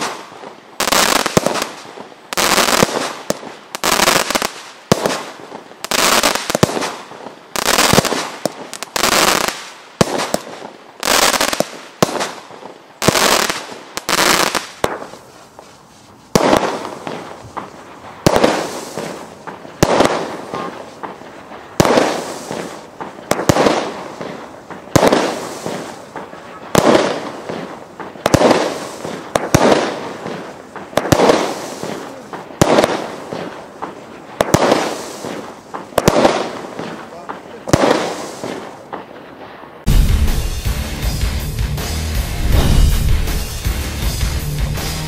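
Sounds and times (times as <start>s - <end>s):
firework bangs with hiss: 0.0s - 40.6s, 42.4s - 43.6s.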